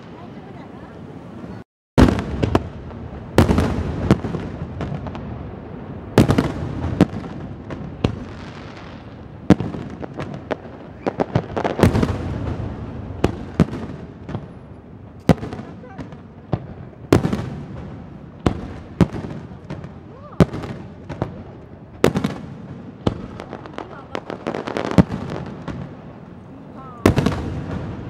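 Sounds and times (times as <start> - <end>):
fireworks bursting: 0.0 - 28.0
fireworks crackling: 0.0 - 28.0.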